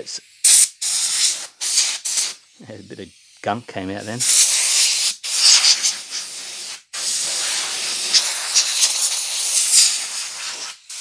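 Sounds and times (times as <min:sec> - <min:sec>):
compressed air hissing from blow gun: 0:00.0 - 0:11.0.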